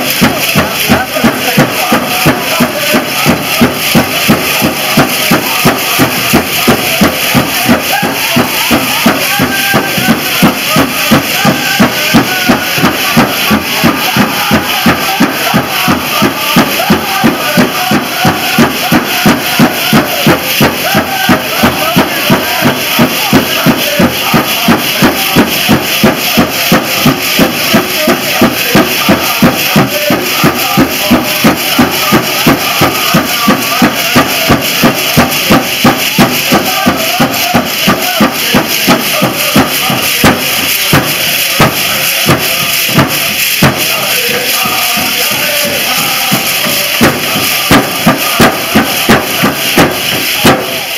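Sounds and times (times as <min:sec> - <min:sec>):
drum beaten in steady pulse: 0:00.0 - 0:50.9
people singing: 0:00.0 - 0:50.9.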